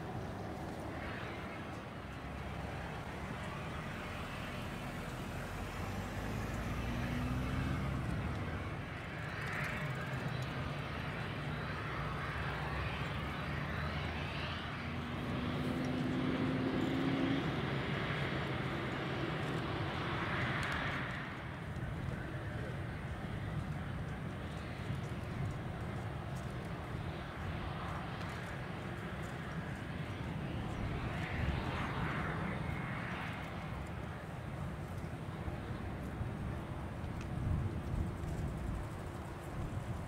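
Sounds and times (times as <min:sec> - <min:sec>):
jet engine rumble and hiss: 0:00.0 - 0:40.0.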